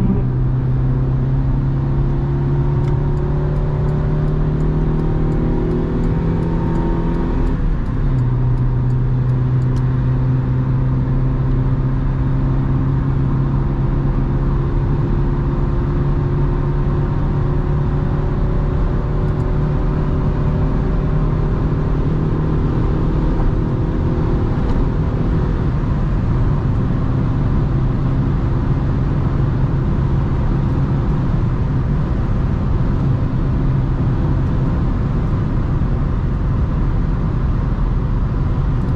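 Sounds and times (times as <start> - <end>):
car engine from inside cabin: 0.0 - 38.9
road and wind noise: 0.0 - 38.9.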